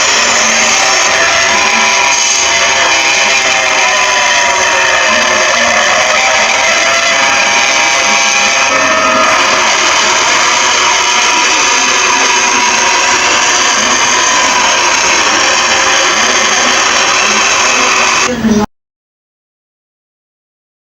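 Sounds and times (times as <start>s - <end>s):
distorted alarm drone: 0.0s - 18.7s.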